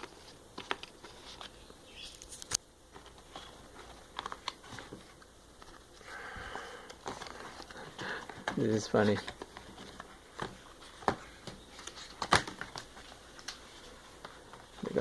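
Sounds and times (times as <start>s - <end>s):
paper packaging rustling: 0.0s - 6.0s, 6.9s - 15.0s.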